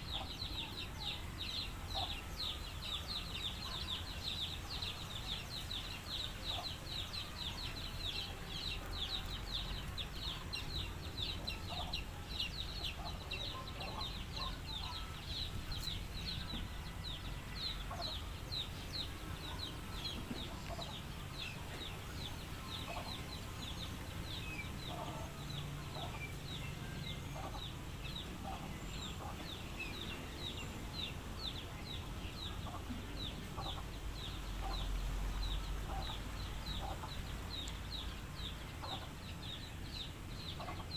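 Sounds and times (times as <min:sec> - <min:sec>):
chickens clucking: 0:00.0 - 0:16.8, 0:17.6 - 0:40.9.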